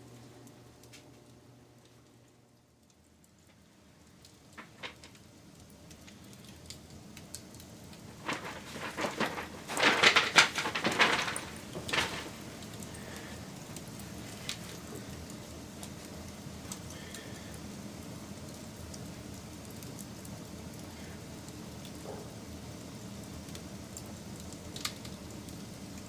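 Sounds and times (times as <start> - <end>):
campfire crackling and popping: 2.6 - 26.0
fire hissing: 3.2 - 26.0.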